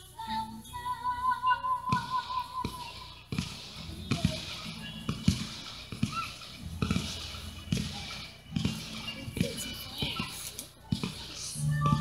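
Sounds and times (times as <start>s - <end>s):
distant fireworks thumping: 1.8s - 12.0s.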